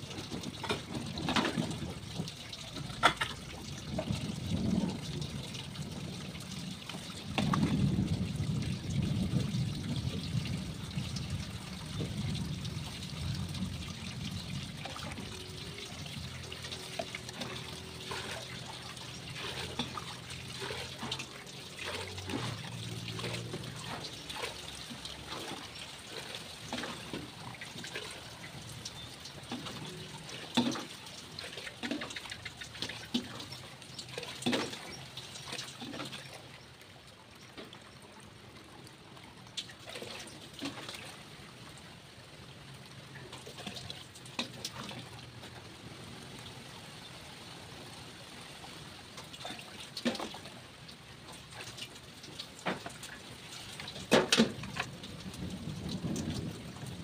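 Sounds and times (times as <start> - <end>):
water splashing and trickling: 0.0 - 57.0.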